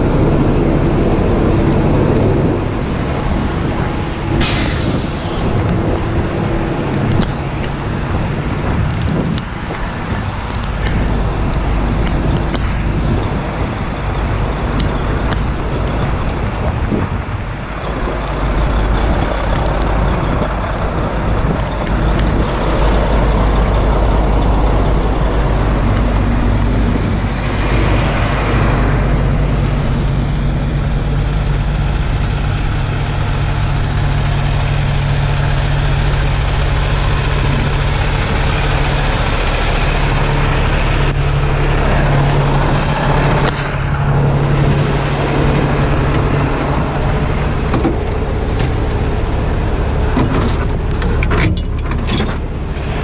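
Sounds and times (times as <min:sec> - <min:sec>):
diesel truck engine running: 0:00.0 - 0:53.0.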